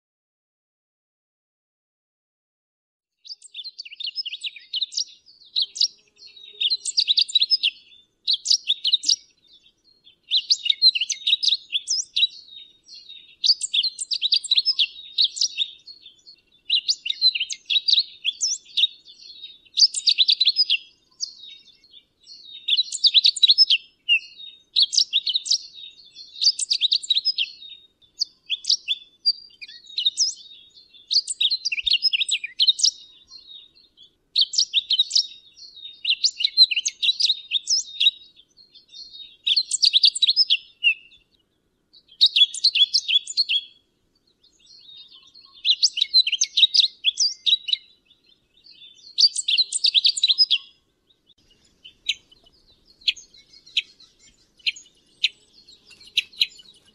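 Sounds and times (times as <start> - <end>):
bird singing warbled phrases: 3.2 - 56.9.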